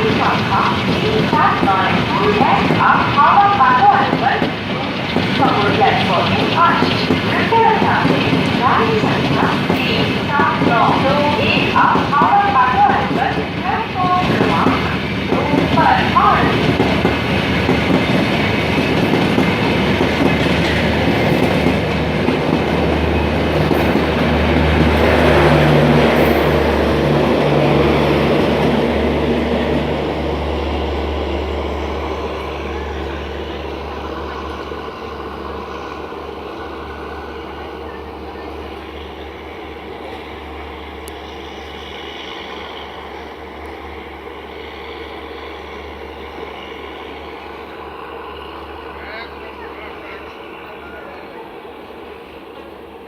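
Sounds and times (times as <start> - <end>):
train wheels clattering: 0.0 - 49.0.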